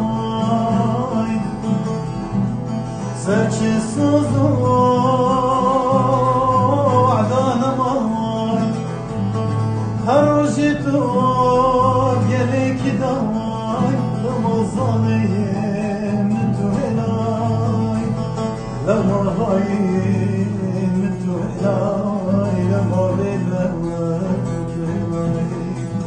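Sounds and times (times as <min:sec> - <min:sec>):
long-necked lute: 0:00.0 - 0:26.0
man singing: 0:00.0 - 0:26.0.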